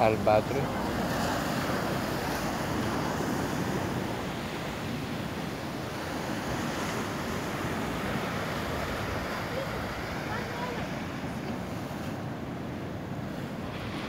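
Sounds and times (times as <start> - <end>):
waves breaking on shore: 0.0 - 14.0.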